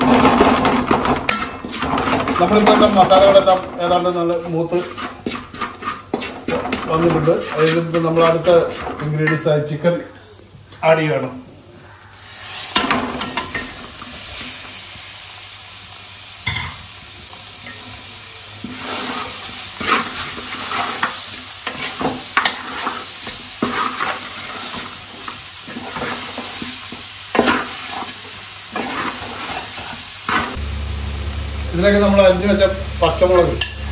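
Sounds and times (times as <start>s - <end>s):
chicken sizzling in hot oil: 0.0s - 9.2s, 12.2s - 33.9s.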